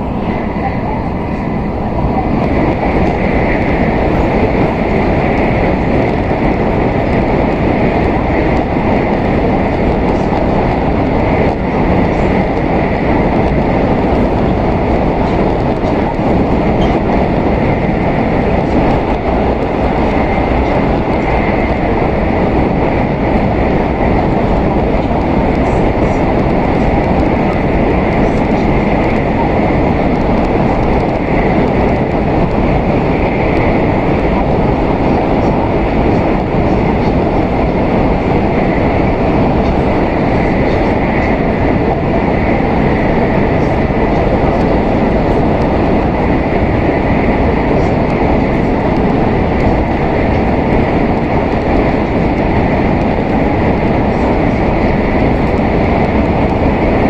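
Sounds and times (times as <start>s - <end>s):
rushing air: 0.0s - 57.0s
train wheels rumbling: 0.0s - 57.0s.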